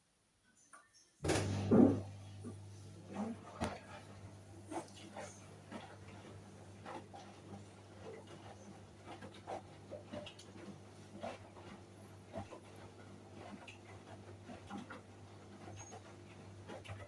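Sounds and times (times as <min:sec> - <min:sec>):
washing machine motor hum: 0:01.2 - 0:17.0.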